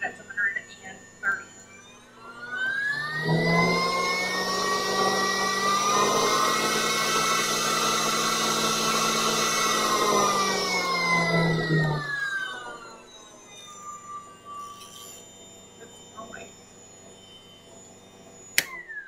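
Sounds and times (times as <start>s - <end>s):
stand mixer motor whine: 0.0s - 19.0s.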